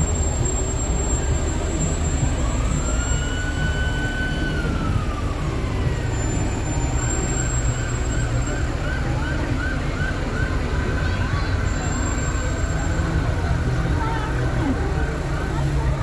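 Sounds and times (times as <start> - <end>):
emergency vehicle siren: 0.0 - 16.0.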